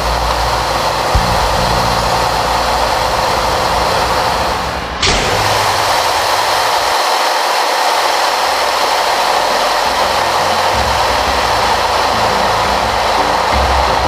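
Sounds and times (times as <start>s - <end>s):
aircraft radial engine: 0.0s - 14.0s
rushing air: 0.2s - 13.5s.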